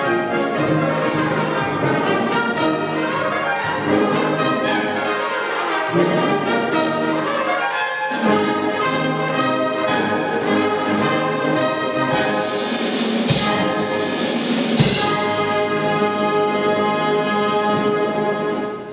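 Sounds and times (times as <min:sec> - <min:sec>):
wind band playing a polka: 0:00.0 - 0:18.9.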